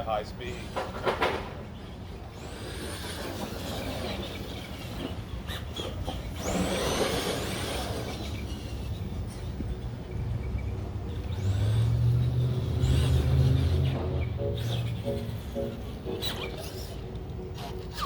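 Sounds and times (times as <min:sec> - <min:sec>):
toy car electric motor whining: 0:02.3 - 0:18.0.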